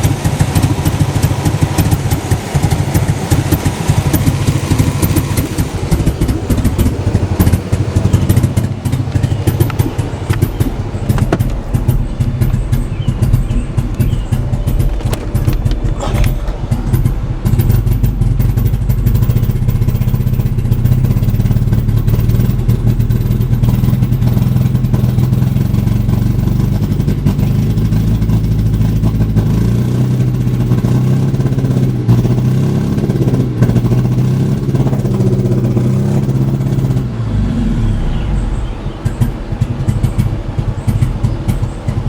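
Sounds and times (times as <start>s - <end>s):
car engine idling roughly: 0.0s - 42.0s
engine knocking: 0.0s - 42.0s.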